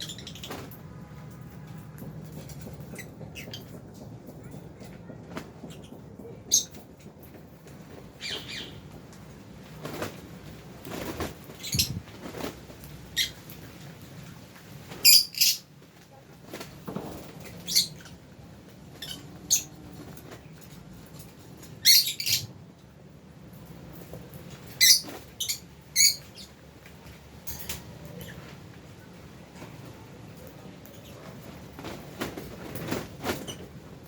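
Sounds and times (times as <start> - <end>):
birds chirping and squeaking: 0.0 - 22.9, 23.5 - 34.0.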